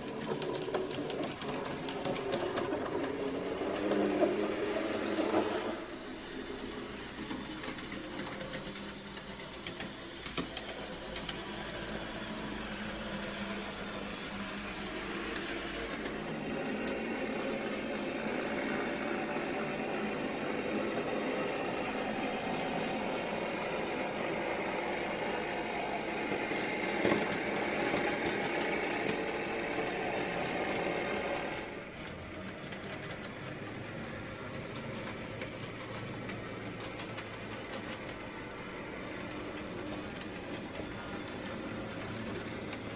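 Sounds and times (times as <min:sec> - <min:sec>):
model train motor whir: 0:00.0 - 0:42.9.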